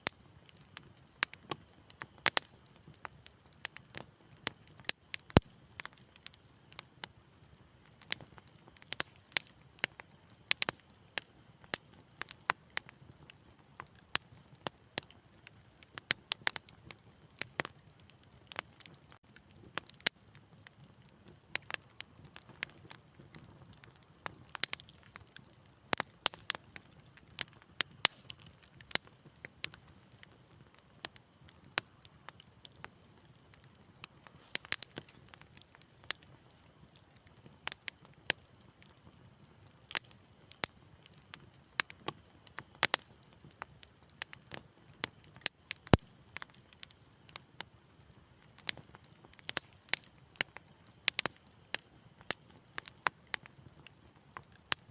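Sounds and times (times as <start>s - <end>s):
wood fire popping and snapping: 0.0s - 54.9s.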